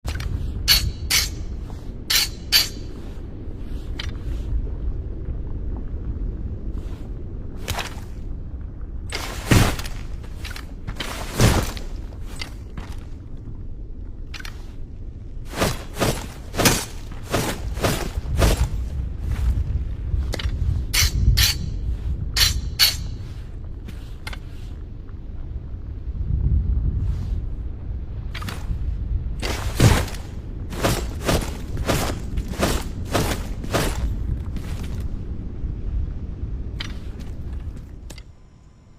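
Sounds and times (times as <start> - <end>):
low rumble: 0.0 - 38.9.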